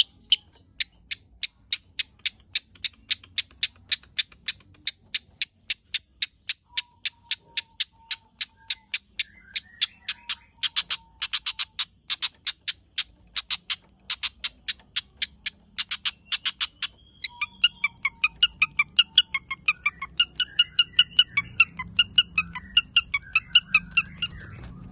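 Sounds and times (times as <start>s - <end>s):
bird calling sharp clicking notes: 0.0s - 24.9s
bird chattering and warbling: 0.0s - 24.9s.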